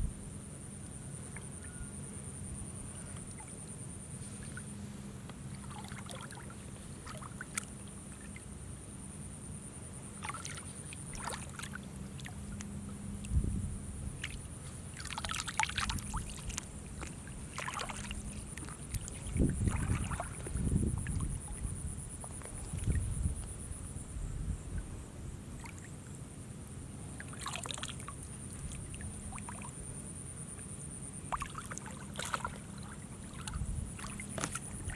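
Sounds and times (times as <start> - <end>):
water splashing and sloshing: 3.0 - 8.6, 10.1 - 24.0, 24.7 - 26.2, 27.1 - 34.9.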